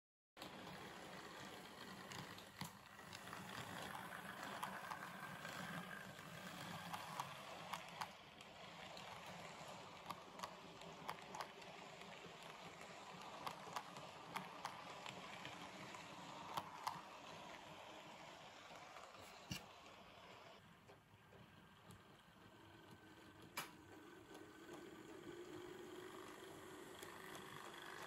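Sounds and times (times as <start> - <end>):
model train rumbling on track: 0.4 - 28.0
wheels clicking on rails: 0.4 - 28.0.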